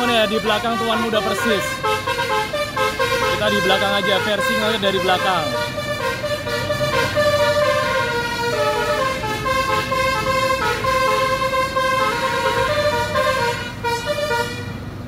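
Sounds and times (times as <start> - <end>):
musical air horn playing tune: 0.0 - 14.8.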